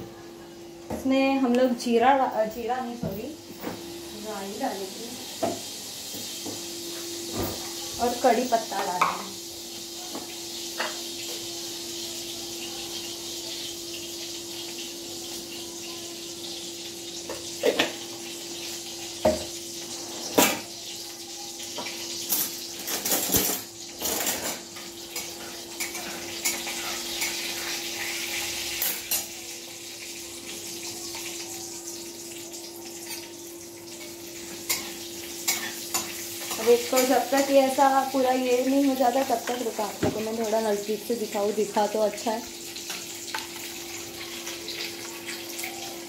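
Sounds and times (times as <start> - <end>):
hot oil sizzling: 0.0 - 46.0.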